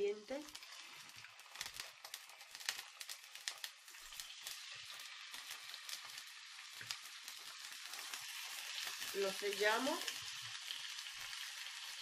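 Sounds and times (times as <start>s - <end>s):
fish sizzling in frying pan: 0.0s - 12.0s
spitting oil crackling: 0.2s - 10.1s.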